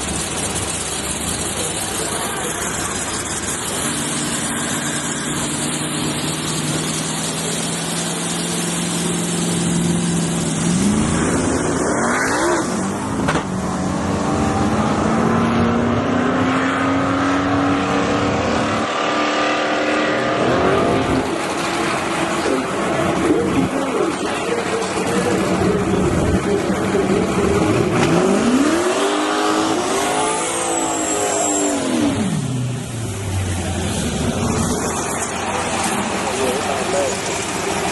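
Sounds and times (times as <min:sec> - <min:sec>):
tires spinning: 0:00.0 - 0:37.9
truck engine revving: 0:00.0 - 0:37.9.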